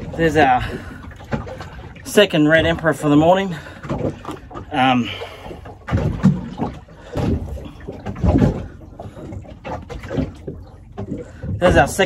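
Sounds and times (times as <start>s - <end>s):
knocks and thumps on a boat: 0.0s - 12.0s.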